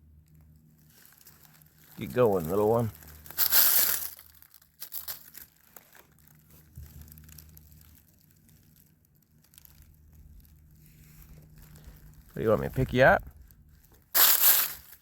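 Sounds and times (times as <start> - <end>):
dry leaves rustling and crackling: 0.2 - 15.0.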